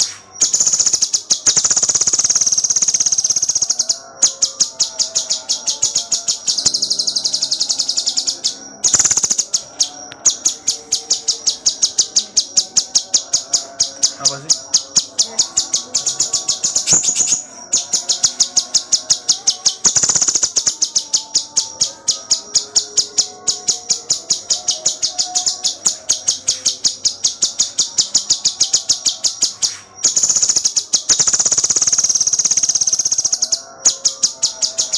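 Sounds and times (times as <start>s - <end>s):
bird singing high chirps and trills: 0.0s - 34.9s.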